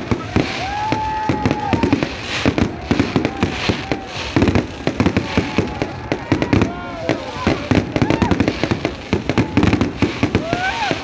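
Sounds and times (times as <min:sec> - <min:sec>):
fireworks banging and crackling: 0:00.0 - 0:11.0
fireworks whistling: 0:00.0 - 0:11.0.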